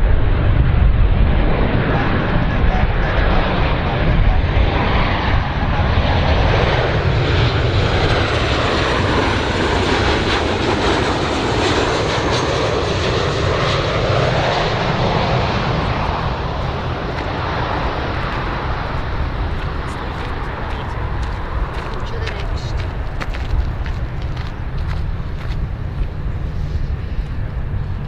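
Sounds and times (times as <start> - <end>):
airplane engines rushing: 0.0 - 28.0.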